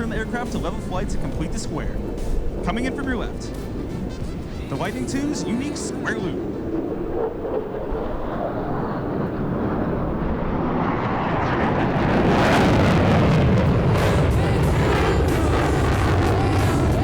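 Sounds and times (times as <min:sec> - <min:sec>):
fighter jet engine roar: 0:00.0 - 0:17.0.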